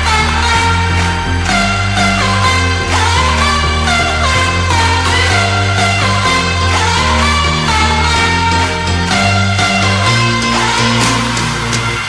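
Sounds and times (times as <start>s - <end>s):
deep bass: 0.0s - 12.0s
electronic background music: 0.0s - 12.0s
synth notes bending in pitch: 0.0s - 12.0s.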